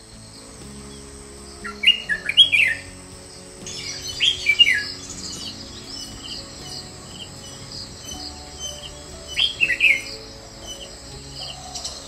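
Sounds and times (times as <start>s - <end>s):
high repeated bird chirps: 0.0s - 12.0s.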